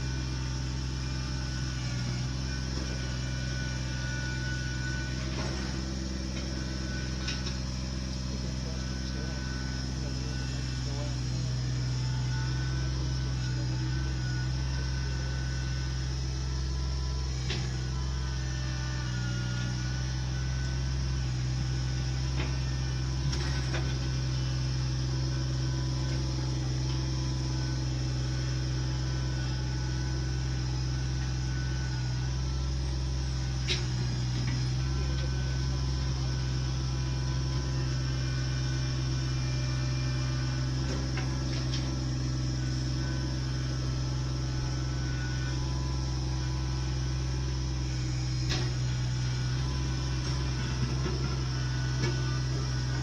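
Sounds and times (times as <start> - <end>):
machinery engine running steadily: 0.0 - 53.0.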